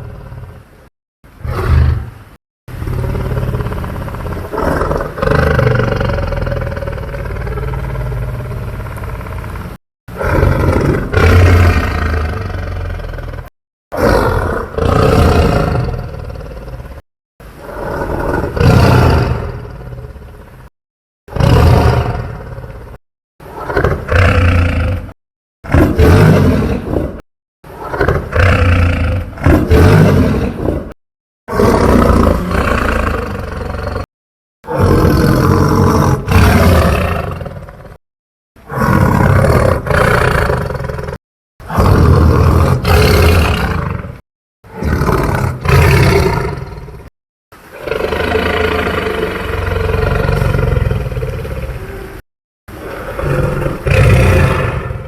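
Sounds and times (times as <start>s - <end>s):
dinosaur roar sound effects: 0.0s - 20.7s, 21.3s - 38.0s, 38.6s - 55.0s.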